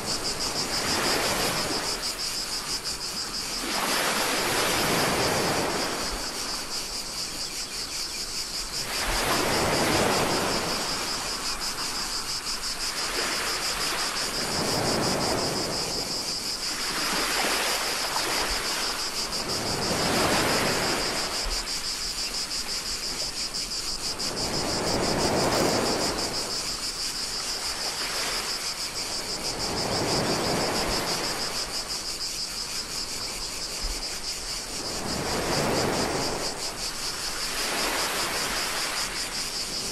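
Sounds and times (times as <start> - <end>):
small waves washing onto shore: 0.0 - 7.4, 8.4 - 39.9
cicadas droning: 0.0 - 39.9.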